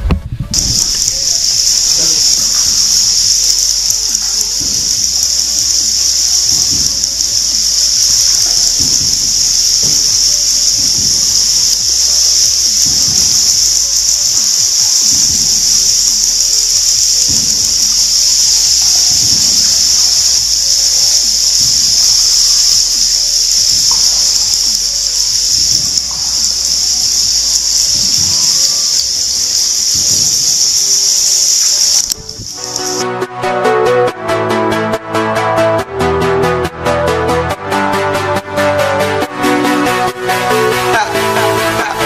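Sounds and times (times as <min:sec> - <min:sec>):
high-pitched hissing drone: 0:00.5 - 0:42.0.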